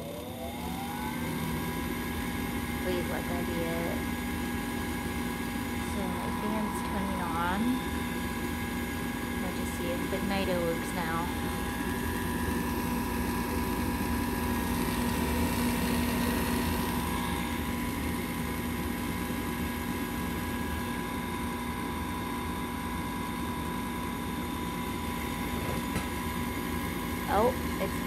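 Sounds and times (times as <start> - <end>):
furnace fan motor humming: 0.0 - 28.0.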